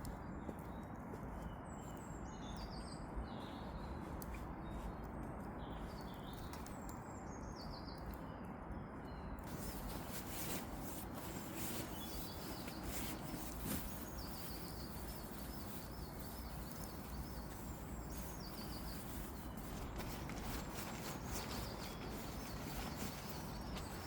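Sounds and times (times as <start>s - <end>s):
songbird chirping: 0.0s - 24.0s
outdoor background hiss: 1.1s - 24.0s.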